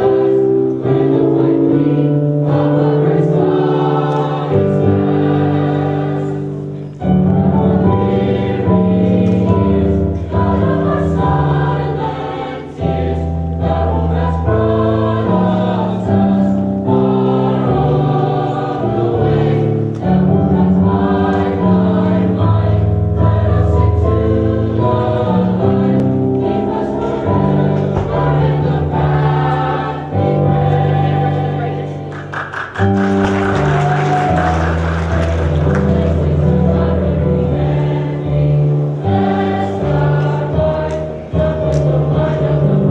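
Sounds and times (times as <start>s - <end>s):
choir singing in parts: 0.0s - 42.9s.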